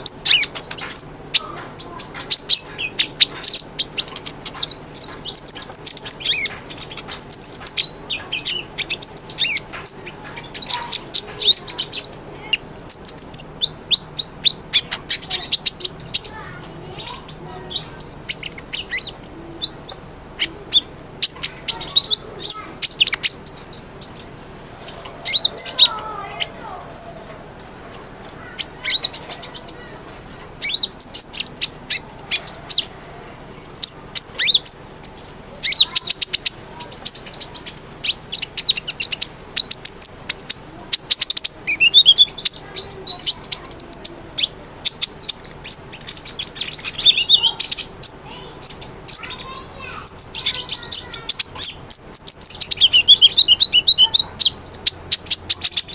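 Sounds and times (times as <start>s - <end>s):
sunbird singing high rapid chirps: 0.0s - 33.0s, 33.6s - 55.9s.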